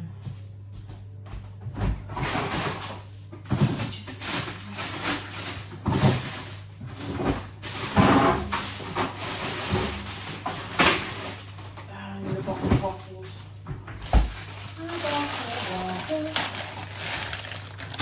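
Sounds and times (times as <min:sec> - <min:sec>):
low steady hum: 0:00.0 - 0:18.0
frozen packets clattering and rustling: 0:02.2 - 0:12.9, 0:13.9 - 0:18.0.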